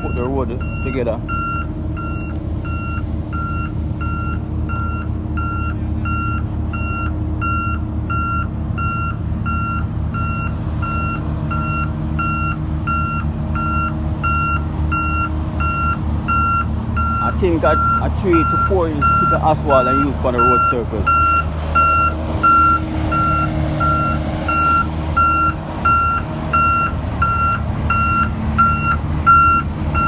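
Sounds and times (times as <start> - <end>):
diesel engine rumbling: 0.0 - 30.0
reversing alarm beeping: 0.0 - 30.0.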